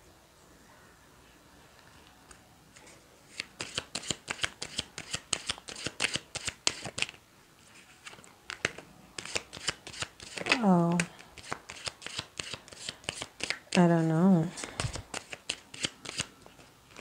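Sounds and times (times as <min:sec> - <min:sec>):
playing cards shuffling: 0:02.7 - 0:17.0.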